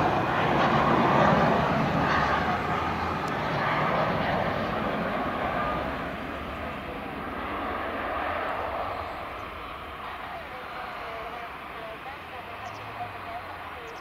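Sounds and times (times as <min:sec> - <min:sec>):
jet airliner engines landing: 0:00.0 - 0:14.0.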